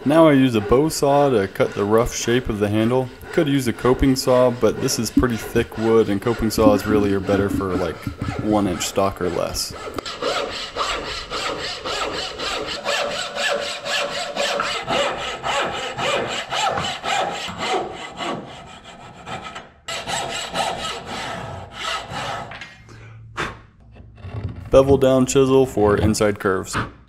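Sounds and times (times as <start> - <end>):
bow saw cutting wood: 0.0 - 22.7.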